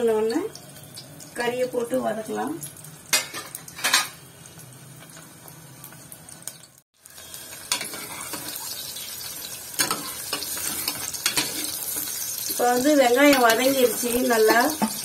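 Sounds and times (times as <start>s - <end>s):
shallots sizzling in hot oil: 0.0s - 15.0s.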